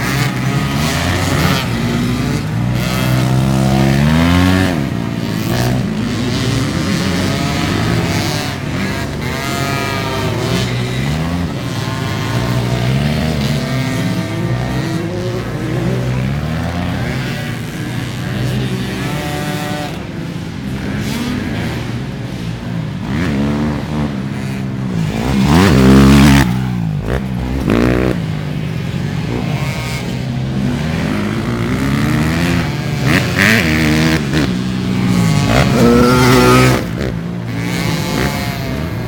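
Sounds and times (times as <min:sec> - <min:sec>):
atv engines revving: 0:00.0 - 0:39.0.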